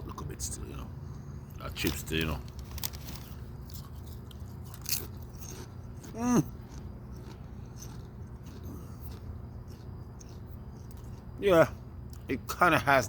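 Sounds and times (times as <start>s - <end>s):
chewing crunchy chips: 1.6s - 12.4s.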